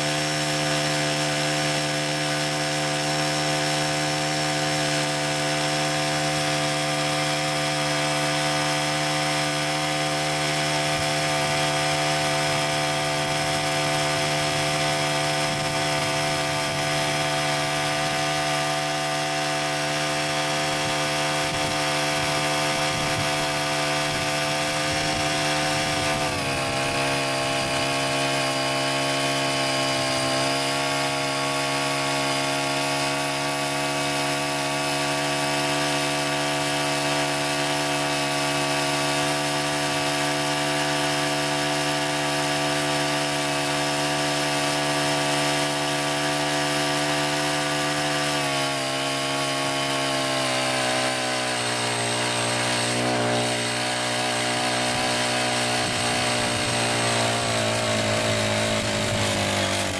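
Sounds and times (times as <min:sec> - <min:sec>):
small tiller engine running: 0:00.0 - 0:59.9.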